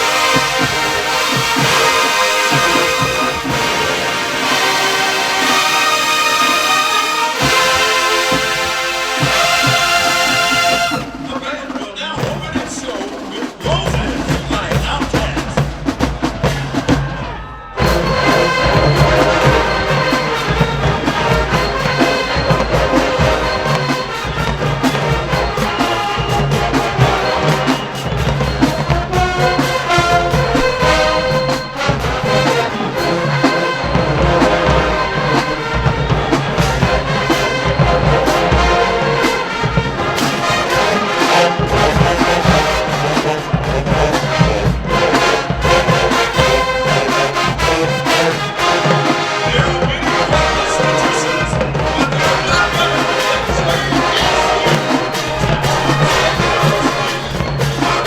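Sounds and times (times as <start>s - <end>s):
marching band playing: 0.0s - 58.0s
trumpets and trombones: 0.0s - 58.0s.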